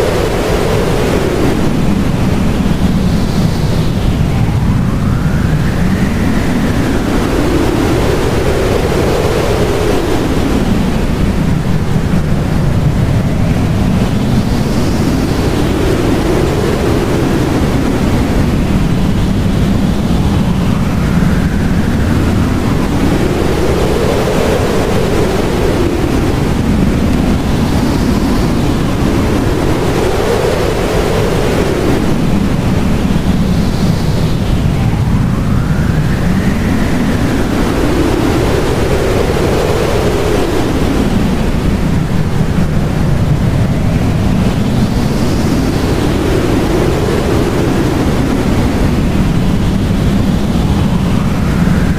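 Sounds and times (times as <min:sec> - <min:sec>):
blizzard wind howling: 0:00.0 - 0:51.9.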